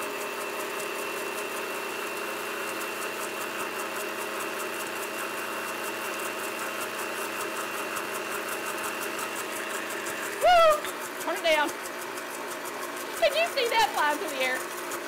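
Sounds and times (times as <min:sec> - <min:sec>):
blender motor running: 0:00.0 - 0:15.0.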